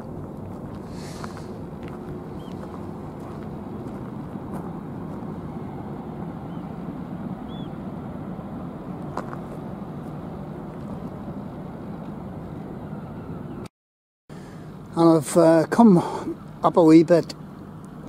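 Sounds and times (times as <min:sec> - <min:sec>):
low rumble of ship engines: 0:00.0 - 0:13.7, 0:14.3 - 0:18.0.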